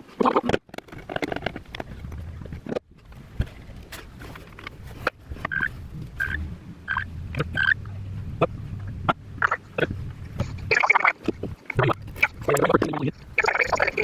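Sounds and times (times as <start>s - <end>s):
car engine rumbling: 0.8s - 14.0s.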